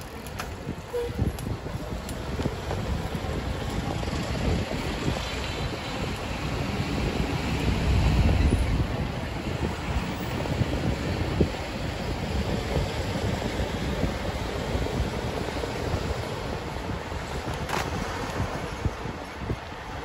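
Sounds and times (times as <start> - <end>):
road and vehicle rumble: 0.0 - 20.0
wind buffeting microphone: 0.0 - 20.0.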